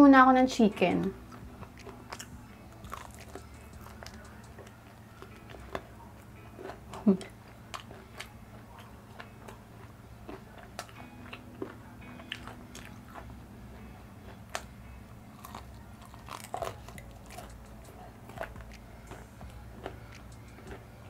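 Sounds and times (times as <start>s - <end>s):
faint steady hum: 0.0s - 21.0s
crunchy chewing: 1.3s - 21.0s.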